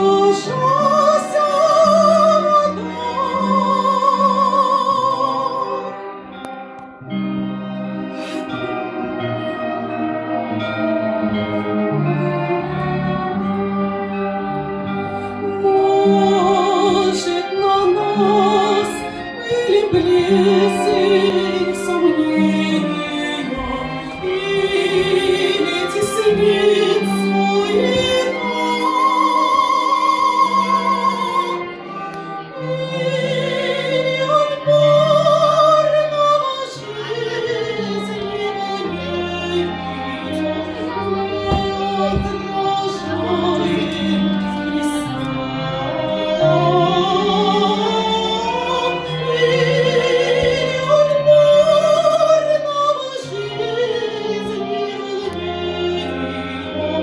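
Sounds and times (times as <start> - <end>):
woman singing operatically: 0.0 - 6.0, 15.5 - 31.7, 32.6 - 57.0.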